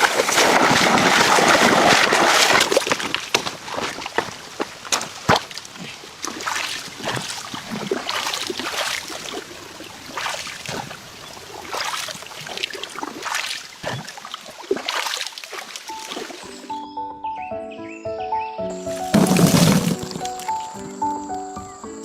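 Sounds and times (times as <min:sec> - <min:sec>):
water splashing and sloshing: 0:00.0 - 0:16.7, 0:18.9 - 0:20.8.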